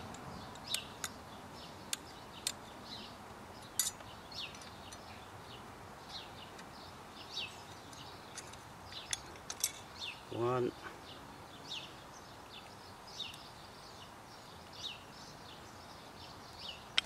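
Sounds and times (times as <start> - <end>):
bird chirps: 0.3 - 17.0.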